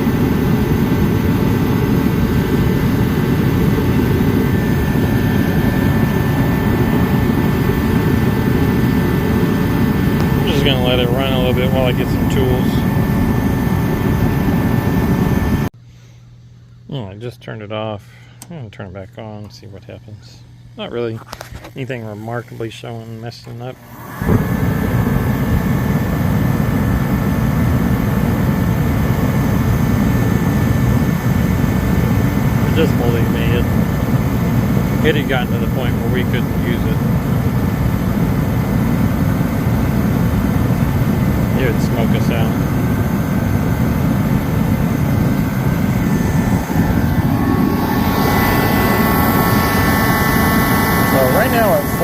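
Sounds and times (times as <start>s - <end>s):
faint high whine: 0.0s - 15.7s, 16.9s - 52.0s
forced-air heater running: 0.0s - 52.0s.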